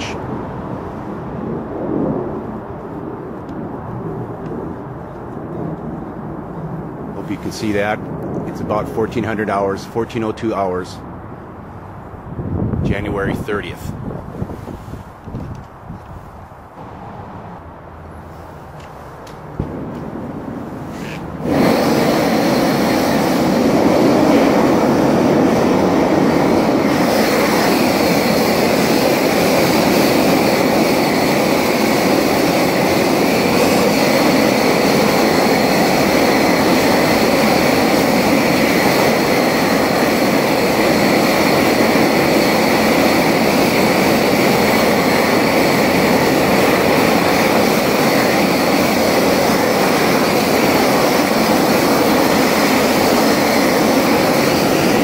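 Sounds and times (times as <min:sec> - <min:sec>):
propane torch roaring: 0:00.0 - 0:55.0.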